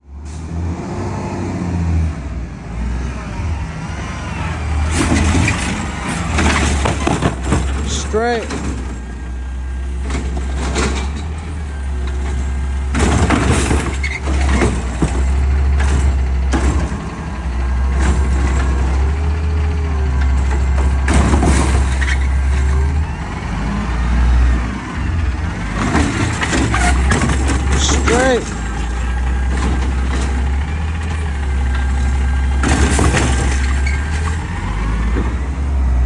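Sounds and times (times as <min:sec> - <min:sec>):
garbage truck engine running: 0:00.0 - 0:36.0
truck hissing and clanking: 0:00.2 - 0:01.3, 0:04.2 - 0:36.0.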